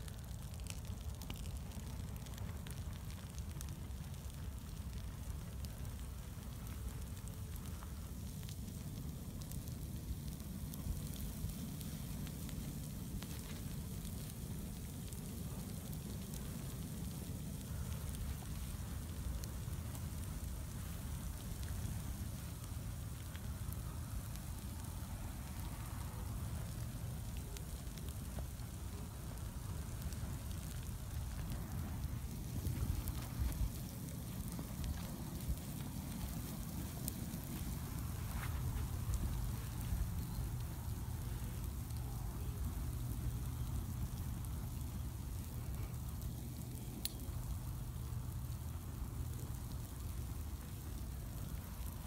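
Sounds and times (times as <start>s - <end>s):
bonfire crackling and popping: 0.0s - 52.0s.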